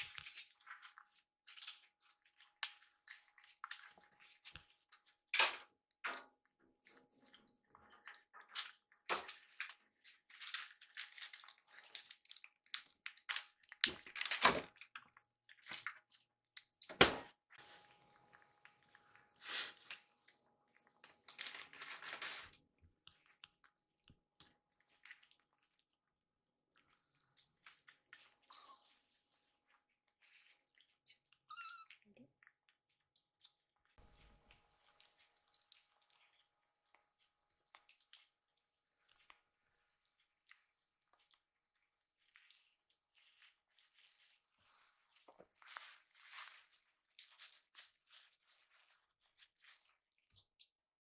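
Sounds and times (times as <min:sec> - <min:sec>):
kittens chewing and licking: 0:00.0 - 0:51.0.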